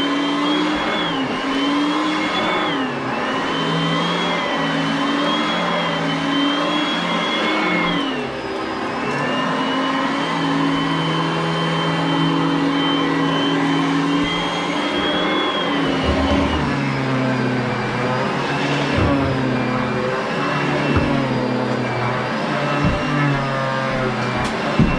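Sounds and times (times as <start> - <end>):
vacuum cleaner running: 0.0 - 24.9.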